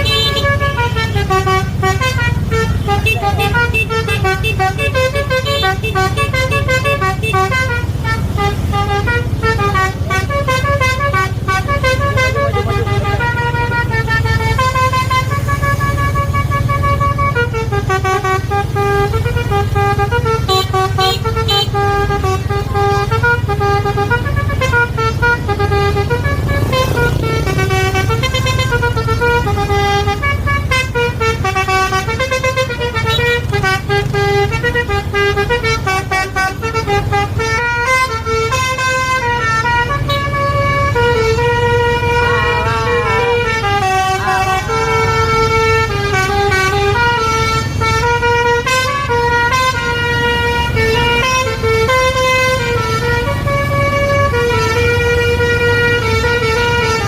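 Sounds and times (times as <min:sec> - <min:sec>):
low rumble of bus engine: 0:00.0 - 0:57.0
multi-tone bus horn melody: 0:00.0 - 0:57.0.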